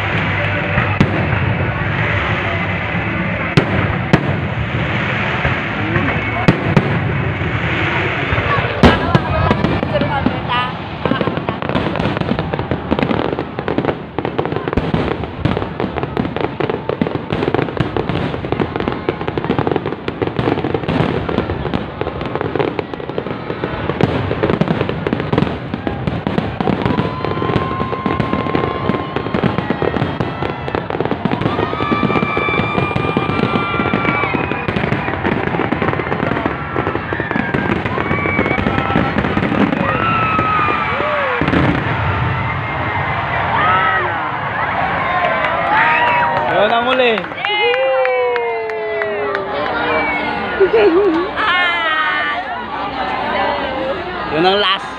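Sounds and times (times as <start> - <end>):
fireworks whistling: 0.0 - 45.1
fireworks bursting and crackling: 0.0 - 54.9.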